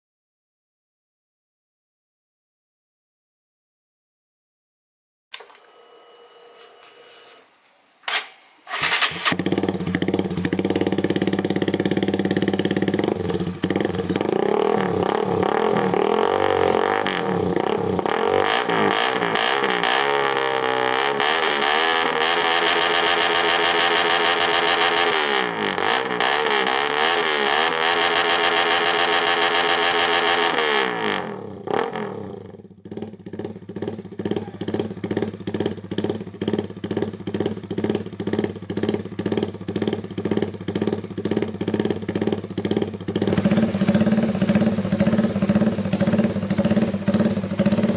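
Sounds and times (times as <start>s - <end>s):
motorcycle engine revving: 8.1s - 47.9s.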